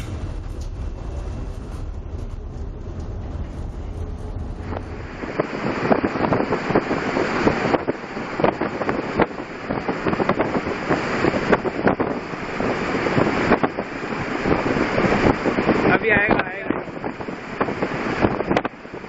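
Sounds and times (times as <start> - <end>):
gusty wind buffeting microphone: 0.0 - 19.0
steady low rumble: 0.0 - 19.0
waves breaking against hull: 0.0 - 19.0.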